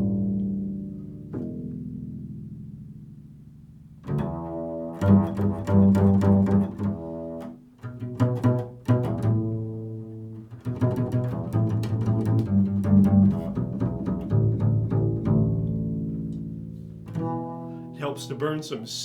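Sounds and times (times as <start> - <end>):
plucked low string instrument: 0.0 - 19.0.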